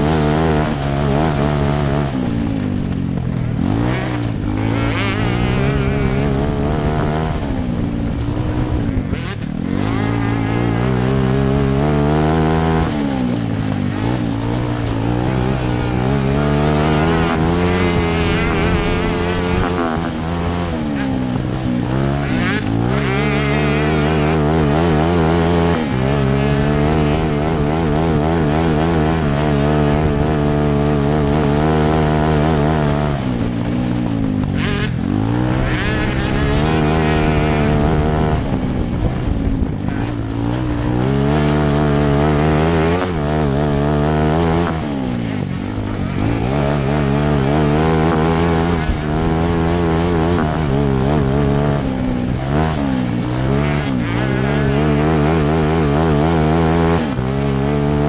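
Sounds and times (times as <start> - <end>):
small engine at high revs: 0.0 - 58.0.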